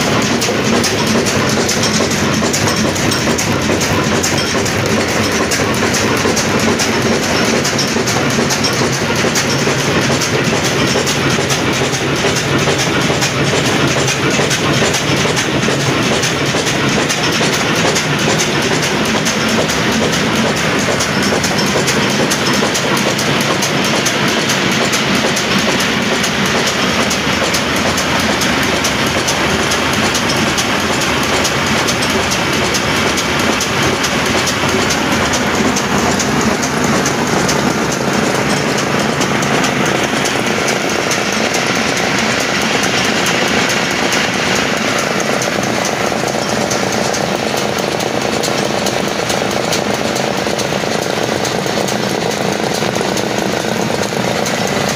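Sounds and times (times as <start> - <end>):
diesel engine running: 0.0 - 54.9
flat belts clattering: 0.0 - 54.9.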